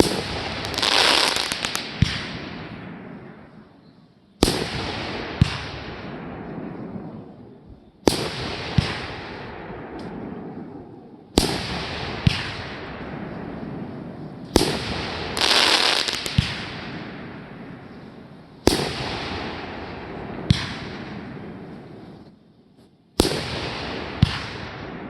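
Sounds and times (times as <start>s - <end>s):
firework bangs: 0.0s - 3.6s, 4.4s - 25.0s
hissing firework crackle: 0.0s - 3.6s, 8.0s - 25.0s.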